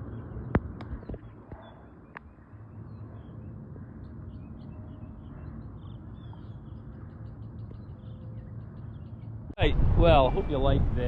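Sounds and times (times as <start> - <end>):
small birds chirping: 0.0 - 10.8
low outdoor rumble: 0.0 - 11.0.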